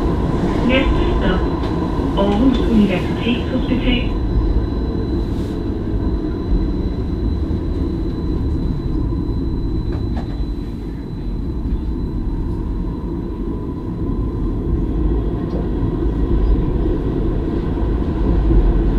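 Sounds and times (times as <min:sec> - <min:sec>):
high-pitched whine: 0:00.0 - 0:17.4
tram wheels rumbling: 0:00.0 - 0:18.9.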